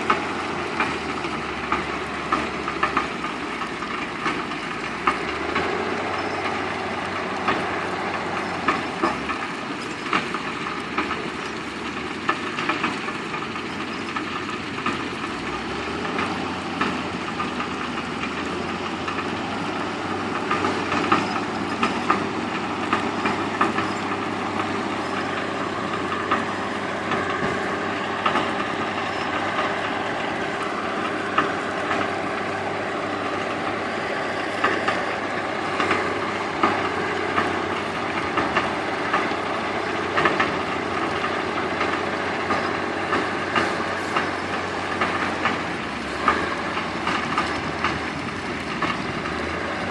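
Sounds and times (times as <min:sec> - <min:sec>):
diesel machinery humming: 0:00.0 - 0:49.9.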